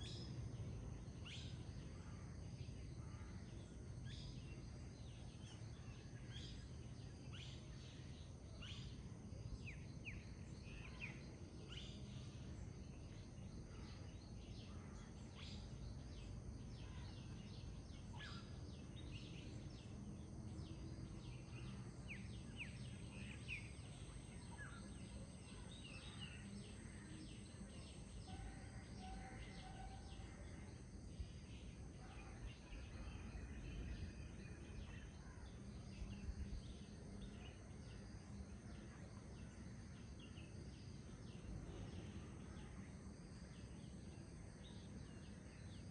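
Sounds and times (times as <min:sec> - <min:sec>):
bird chirps and song: 0:00.0 - 0:45.9.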